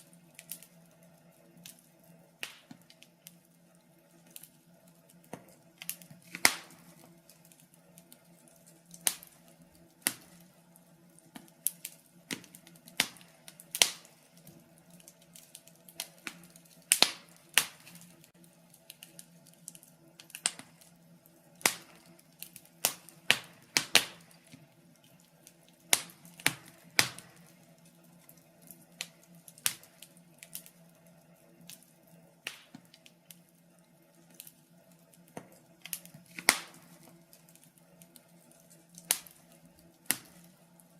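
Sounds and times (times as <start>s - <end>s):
faint steady hum: 0.0s - 40.9s
wood fire crackling and popping: 0.0s - 40.9s.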